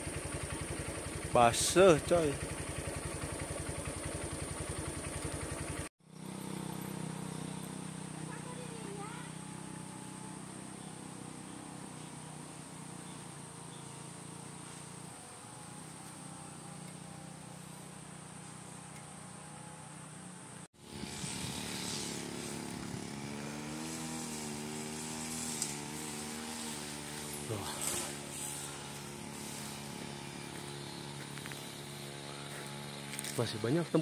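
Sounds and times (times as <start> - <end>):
engine running steadily: 0.0 - 34.0
engine with rising and falling pitch: 0.0 - 34.0.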